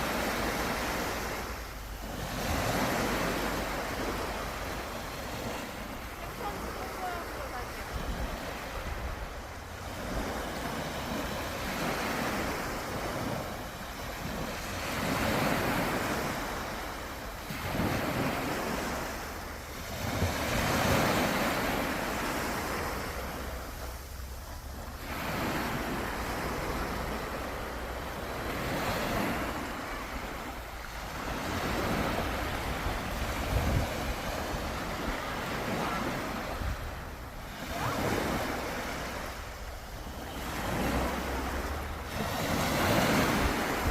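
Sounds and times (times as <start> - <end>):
sea waves breaking on shore: 0.0 - 43.9.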